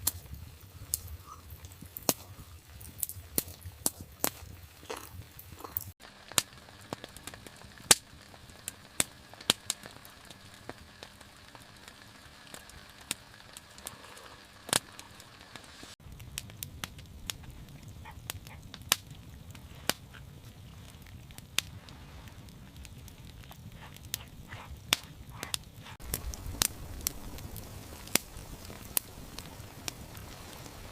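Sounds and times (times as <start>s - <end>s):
faint steady hiss: 0.0s - 30.9s
wood fire crackling and popping: 0.0s - 30.9s.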